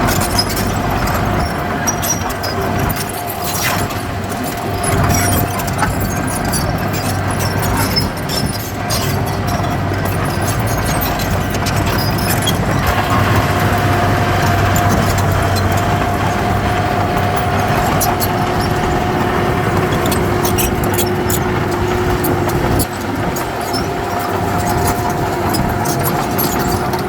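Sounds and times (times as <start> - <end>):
heavy diesel machinery running: 0.0 - 27.0
steady whine: 0.0 - 27.0.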